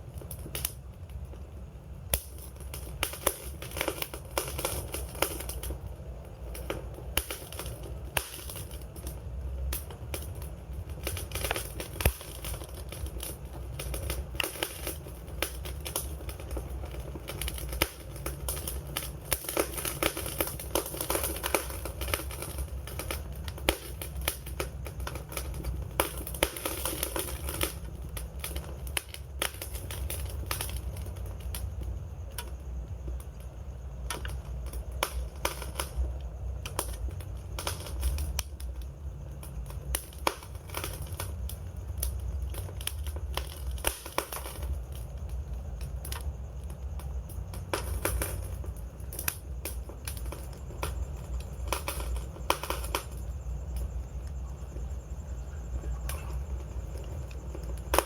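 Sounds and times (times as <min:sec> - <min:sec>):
campfire crackling and popping: 0:00.0 - 0:58.0
flames rumbling and hissing: 0:00.0 - 0:58.0.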